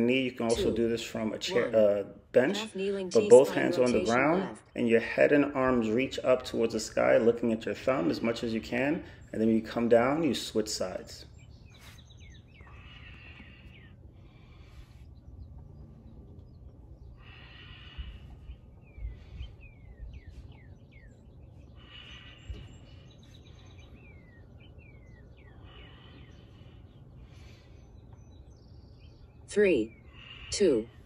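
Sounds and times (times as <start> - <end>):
birds chirping: 0.0 - 31.0
faint low rumble: 2.6 - 31.0.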